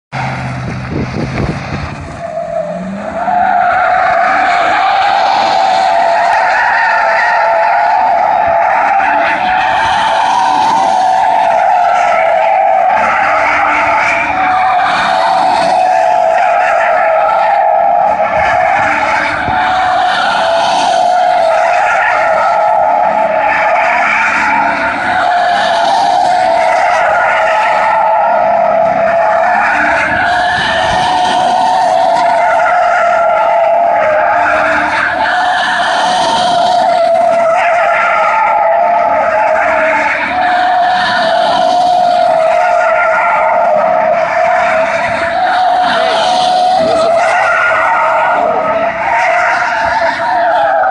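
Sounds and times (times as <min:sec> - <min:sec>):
truck engine running: 0:00.1 - 0:50.9
tyres squealing: 0:01.9 - 0:50.9.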